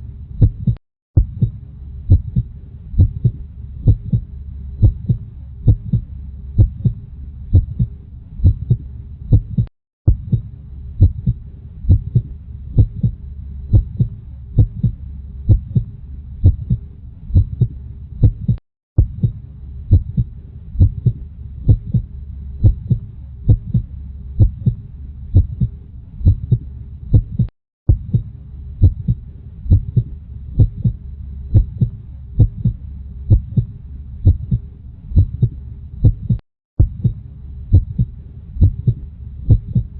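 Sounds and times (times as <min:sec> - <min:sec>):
low continuous rumble: 0:00.0 - 0:39.9
heartbeat: 0:00.4 - 0:39.9.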